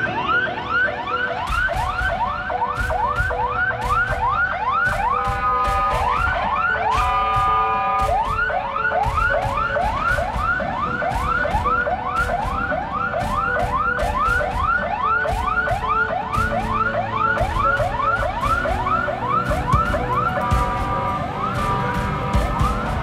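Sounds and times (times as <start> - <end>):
emergency siren yelping: 0.0 - 23.0.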